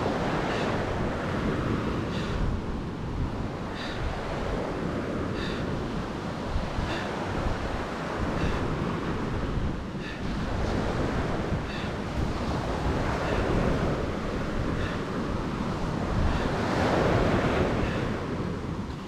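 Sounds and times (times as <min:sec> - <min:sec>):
ocean surf on a beach: 0:00.0 - 0:19.0.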